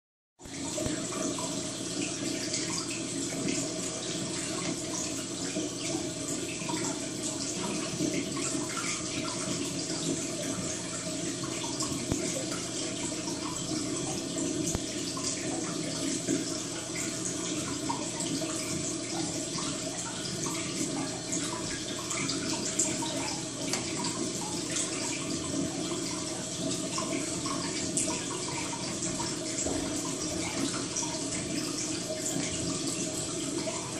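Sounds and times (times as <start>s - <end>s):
running water trickling: 0.4s - 33.9s.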